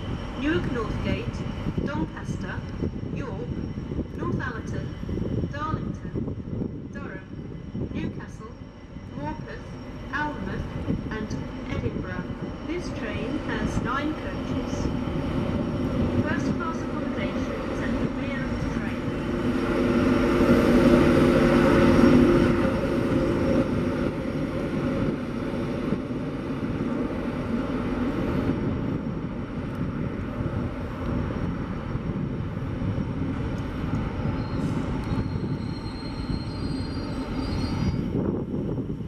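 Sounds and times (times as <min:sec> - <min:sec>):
train rumbling: 0:00.0 - 0:39.0.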